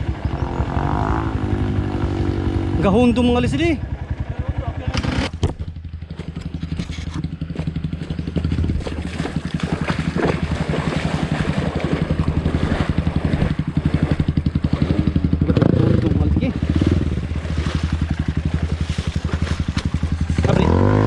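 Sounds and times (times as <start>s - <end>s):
dirt bike engine idling: 0.0s - 21.0s.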